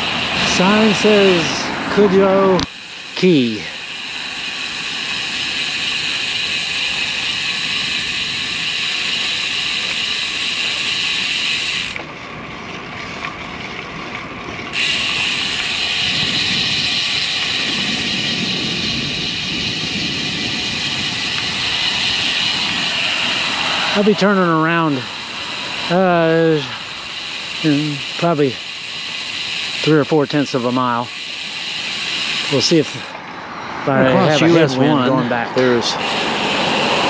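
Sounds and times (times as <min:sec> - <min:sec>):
bicycle freehub buzzing: 0:00.0 - 0:37.0
wind and tyre noise: 0:00.0 - 0:37.0.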